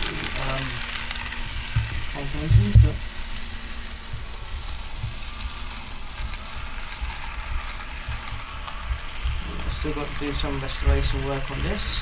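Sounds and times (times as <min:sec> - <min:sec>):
model train whirring and rattling: 0:00.0 - 0:12.0.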